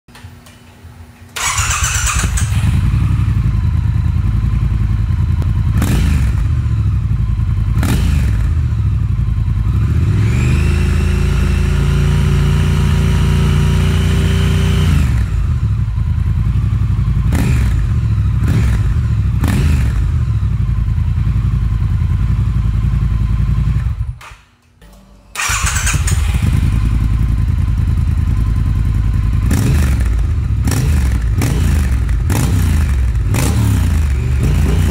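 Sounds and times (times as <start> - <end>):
motorcycle engine starting and revving: 1.4 - 34.9.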